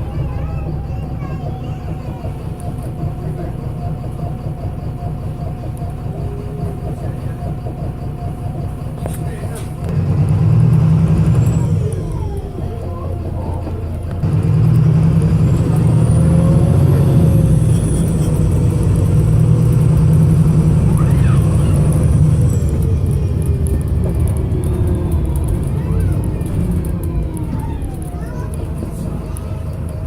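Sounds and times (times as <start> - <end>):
bus diesel engine at full throttle: 0.0 - 30.0.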